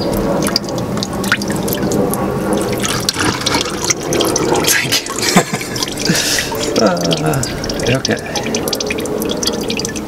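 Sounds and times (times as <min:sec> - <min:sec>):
oil dripping into bucket: 0:00.0 - 0:10.0.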